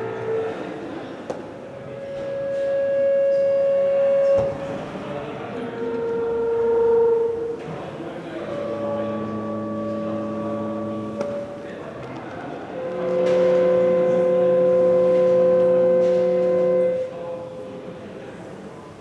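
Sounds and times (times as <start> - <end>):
sustained electronic chord: 0.0 - 1.1, 1.8 - 11.8, 12.7 - 17.7
electronic drone notes: 0.0 - 11.9, 12.6 - 17.7.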